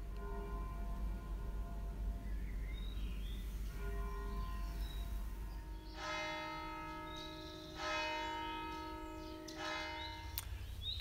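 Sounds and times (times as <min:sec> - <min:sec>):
church bell ringing: 0:00.0 - 0:11.0.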